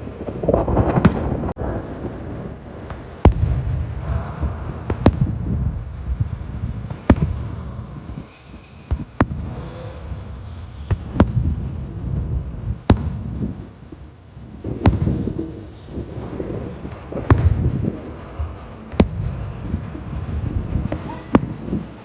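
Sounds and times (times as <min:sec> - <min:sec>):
low rumbling echo: 0:00.0 - 0:22.0.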